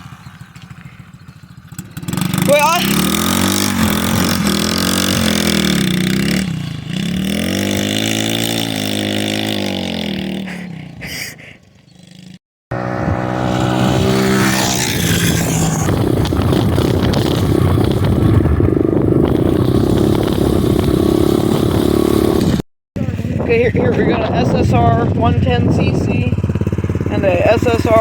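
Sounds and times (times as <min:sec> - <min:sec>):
pit bike engines revving: 0:00.0 - 0:28.0.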